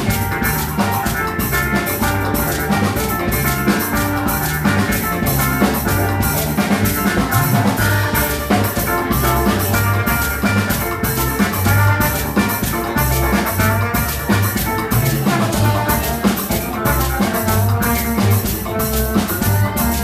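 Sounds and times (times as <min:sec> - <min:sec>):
bass line: 0:00.0 - 0:20.0
drum kit and percussion beat: 0:00.0 - 0:20.0
pitched instruments: 0:00.0 - 0:20.0.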